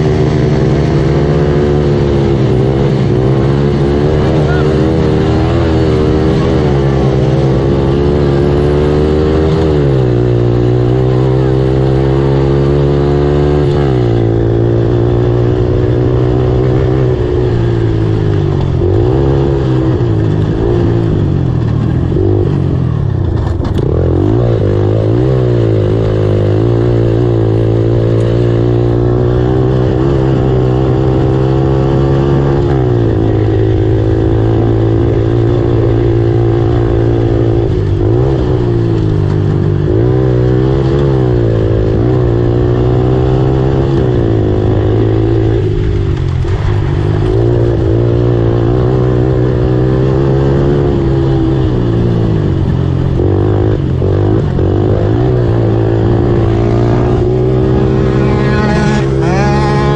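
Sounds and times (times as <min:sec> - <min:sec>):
racing engine revving: 0:00.0 - 0:59.9.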